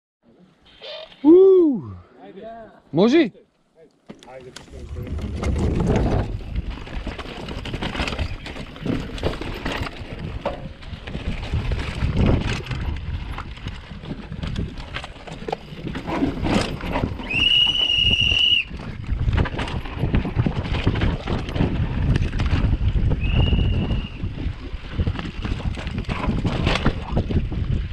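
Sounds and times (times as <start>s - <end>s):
bike rattling over rocks: 4.0s - 27.9s
wind buffeting microphone: 4.7s - 27.9s.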